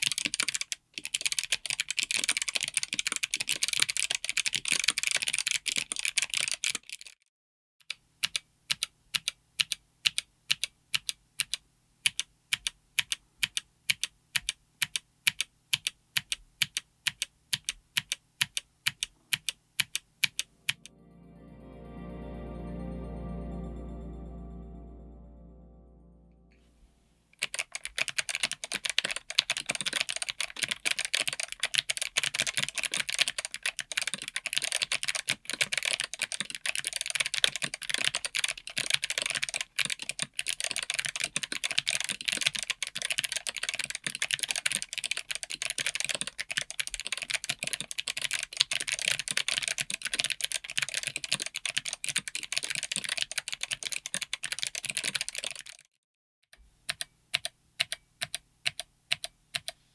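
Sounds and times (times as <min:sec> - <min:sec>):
fast typing on mechanical keyboard: 0:00.0 - 0:07.2, 0:07.9 - 0:20.5, 0:27.4 - 0:55.9, 0:56.9 - 0:59.8.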